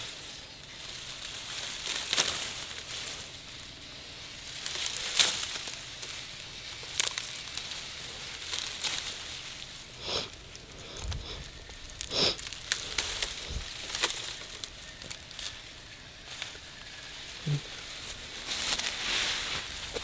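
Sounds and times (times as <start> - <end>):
vegetation rustling and crackling: 0.0 - 20.0.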